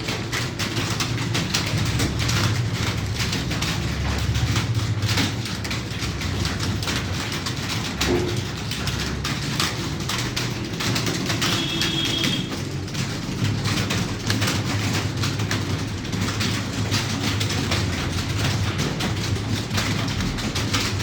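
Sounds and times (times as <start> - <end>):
keyboard typing: 0.0 - 21.0.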